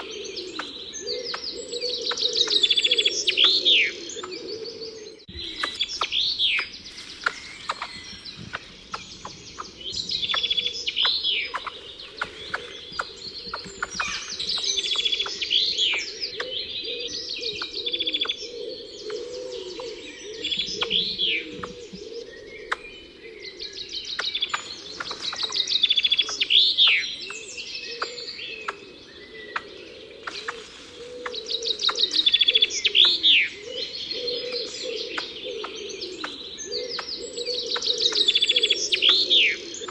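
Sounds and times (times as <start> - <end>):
birds chirping: 0.0 - 39.9
songbird singing: 0.0 - 39.9.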